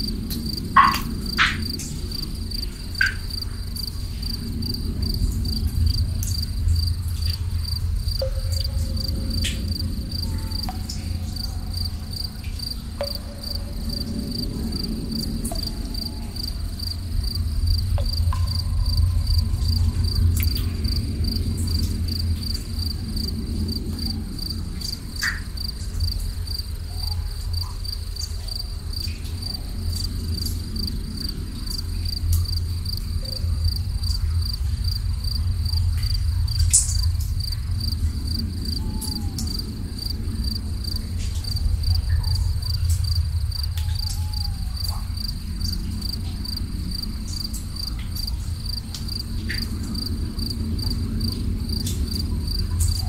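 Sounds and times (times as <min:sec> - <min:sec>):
crickets chirping: 0:00.0 - 0:53.0
deep low rumble: 0:00.0 - 0:53.0
sharp drips: 0:00.0 - 0:53.0.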